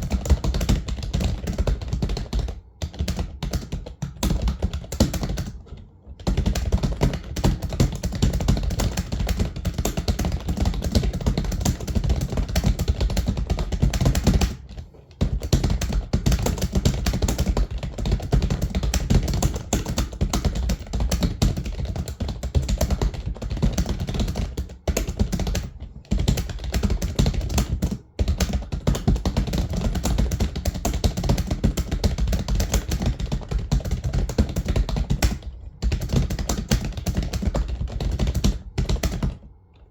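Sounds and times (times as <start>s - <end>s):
fast typing on computer keyboard: 0.0s - 39.5s.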